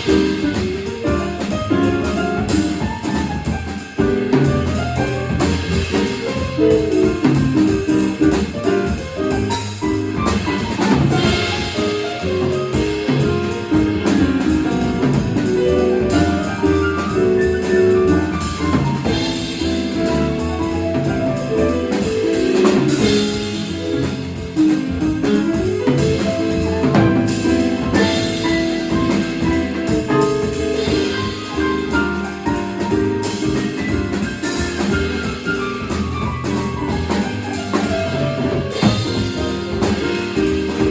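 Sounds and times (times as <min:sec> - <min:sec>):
drums and cymbals: 0:00.0 - 0:40.9
jazz quartet playing: 0:00.0 - 0:40.9.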